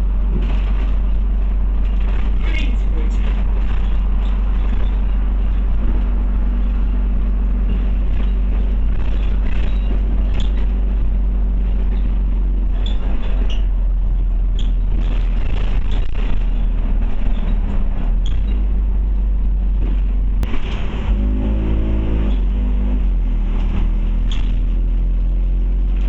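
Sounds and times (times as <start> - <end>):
bodywork rattles and ticks: 0.0 - 21.0, 23.4 - 26.0
bus engine and road drone: 0.0 - 26.0.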